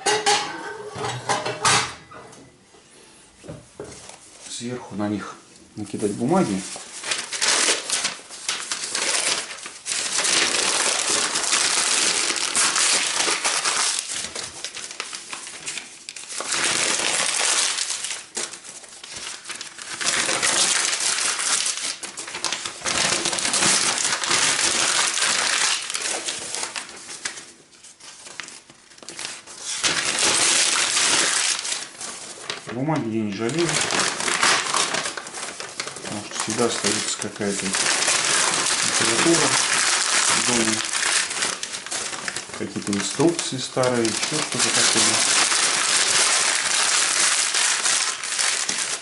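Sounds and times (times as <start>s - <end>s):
paper being crumpled: 5.8s - 49.0s.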